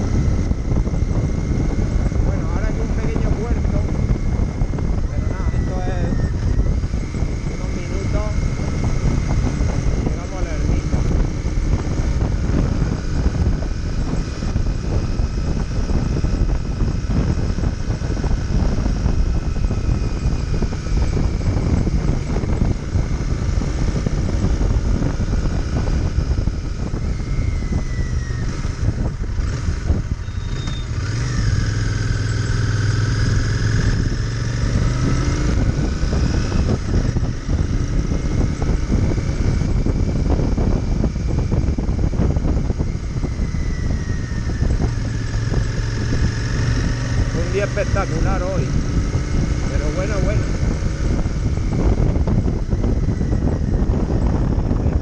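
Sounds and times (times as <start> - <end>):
motorcycle engine running: 0.0 - 55.0
wind rushing past microphone: 0.0 - 55.0.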